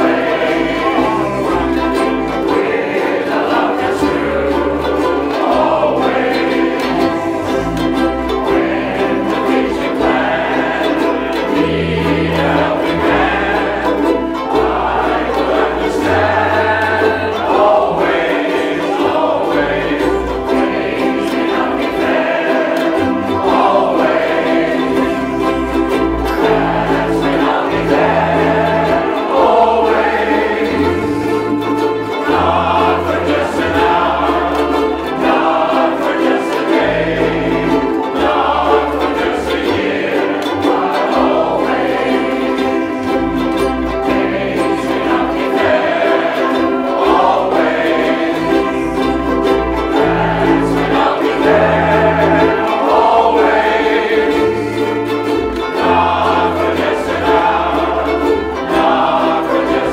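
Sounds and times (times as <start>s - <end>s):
group singing: 0.0s - 59.9s
ukulele ensemble strumming: 0.0s - 59.9s.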